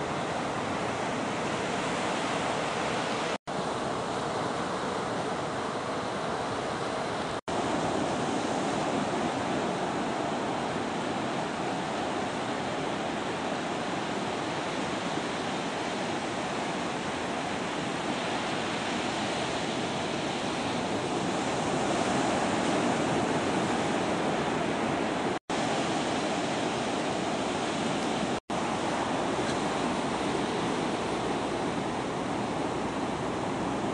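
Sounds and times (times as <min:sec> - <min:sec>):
ocean surf breaking on shore: 0:00.0 - 0:33.9.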